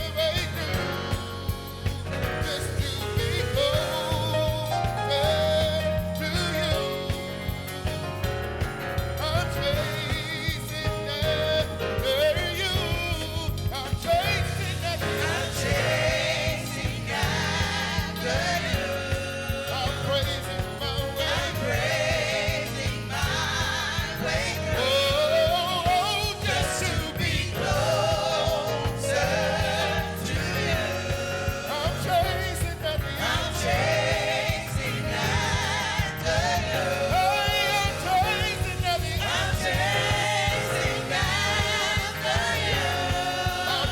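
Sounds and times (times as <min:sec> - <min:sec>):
band with bass and drums: 0:00.0 - 0:43.9
gospel singers with vibrato: 0:00.0 - 0:43.9.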